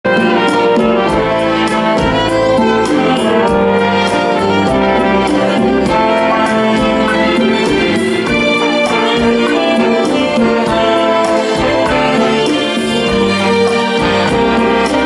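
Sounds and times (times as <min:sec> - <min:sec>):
brass section playing: 0:00.1 - 0:15.0
steady drum beat: 0:00.1 - 0:15.0.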